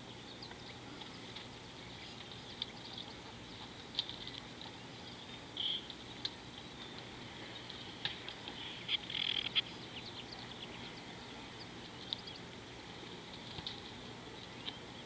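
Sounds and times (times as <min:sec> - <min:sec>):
small animals chirping and clicking: 0:00.1 - 0:15.0.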